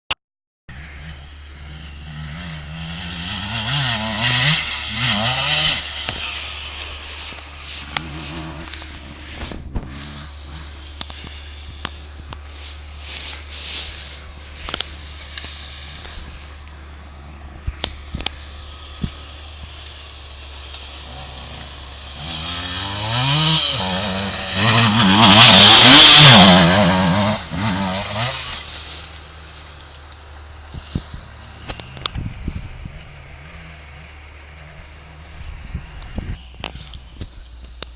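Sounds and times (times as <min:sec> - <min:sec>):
motocross bike engine revving: 0:00.7 - 0:37.3.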